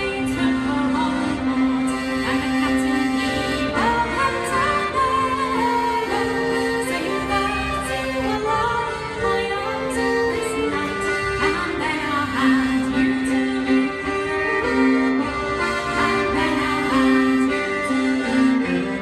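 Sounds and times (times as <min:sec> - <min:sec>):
accordion long notes: 0:00.0 - 0:19.0
bowed fiddle: 0:00.0 - 0:19.0
woman singing folk song: 0:00.0 - 0:19.0.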